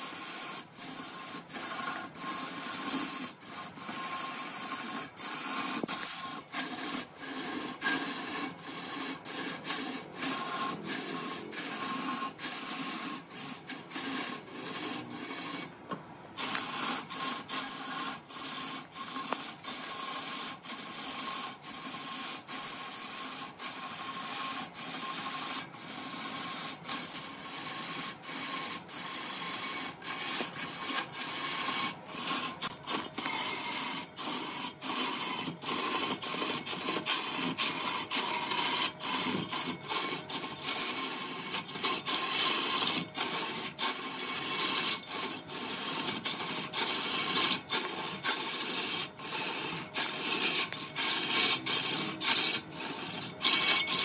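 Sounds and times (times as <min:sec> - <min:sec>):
lathe tool scraping wood: 0:00.0 - 0:15.8, 0:16.4 - 0:54.0.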